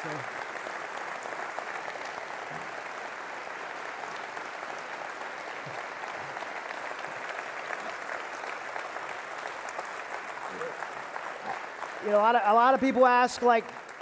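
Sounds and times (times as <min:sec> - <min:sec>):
congregation applauding: 0:00.0 - 0:14.0.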